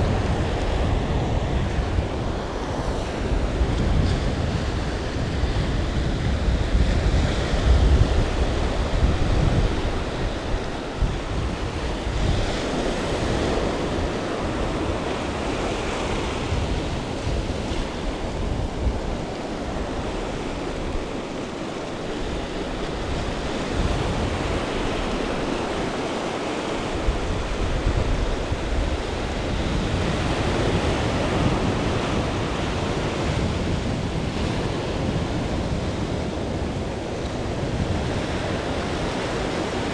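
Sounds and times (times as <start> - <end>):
small waves breaking on beach: 0.0 - 39.9
wind buffeting microphone: 0.0 - 39.9.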